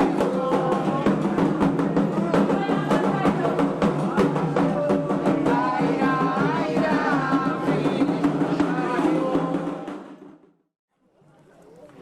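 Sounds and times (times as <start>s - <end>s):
people singing a melody: 0.0s - 10.1s
hand drums beating: 0.0s - 10.5s.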